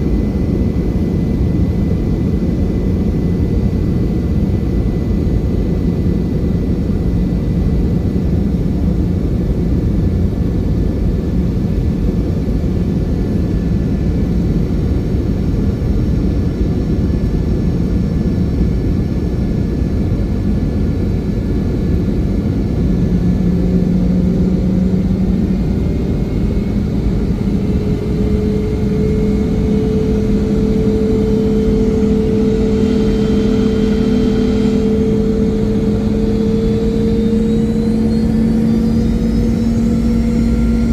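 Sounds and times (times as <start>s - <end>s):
aircraft cabin engine rumble: 0.0s - 40.9s
engine hum rising in pitch: 0.0s - 40.9s.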